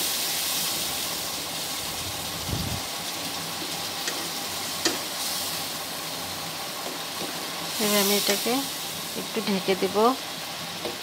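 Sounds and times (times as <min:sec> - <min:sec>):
prawns sizzling in hot oil: 0:00.0 - 0:11.0.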